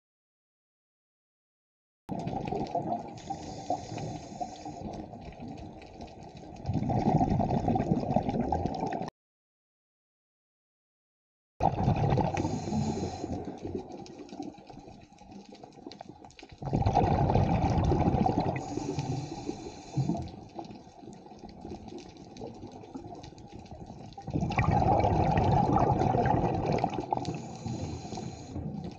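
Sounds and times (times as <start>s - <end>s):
quiet underwater crackling: 2.1s - 9.1s, 11.6s - 28.9s
underwater regulator bubbles: 2.1s - 9.1s, 11.6s - 28.9s.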